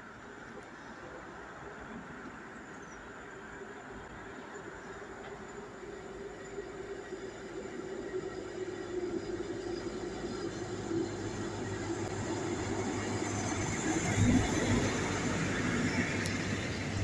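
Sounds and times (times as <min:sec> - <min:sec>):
diesel train approaching: 0:00.0 - 0:17.0.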